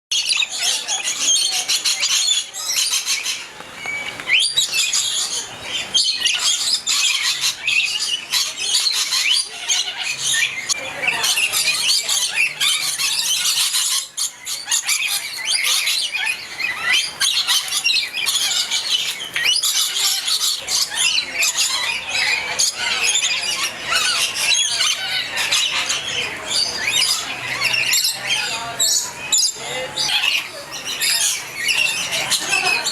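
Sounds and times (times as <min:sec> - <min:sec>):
parrots chattering and squawking: 0:00.1 - 0:32.9.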